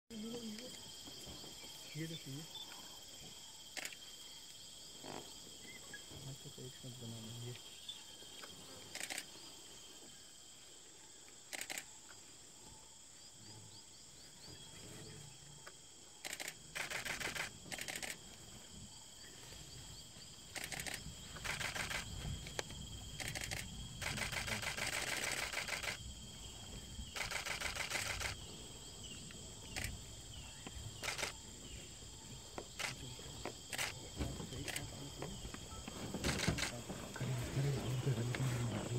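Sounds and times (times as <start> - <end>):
insects droning: 0.1 - 38.9.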